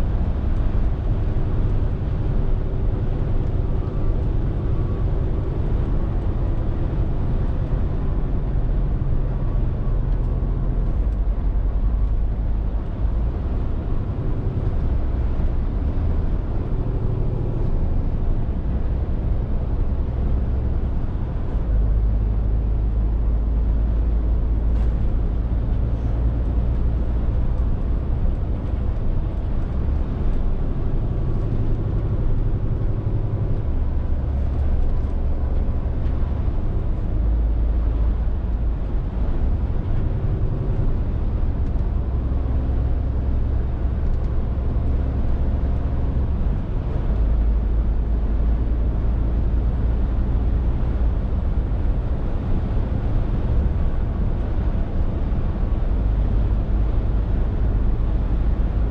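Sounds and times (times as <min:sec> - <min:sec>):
lorry diesel engine running: 0:00.0 - 0:58.9
road and tyre noise: 0:00.0 - 0:58.9.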